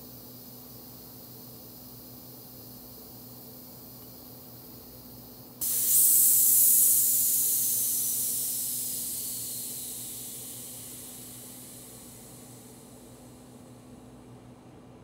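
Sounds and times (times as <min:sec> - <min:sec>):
gas canister venting hiss: 0:00.0 - 0:13.5.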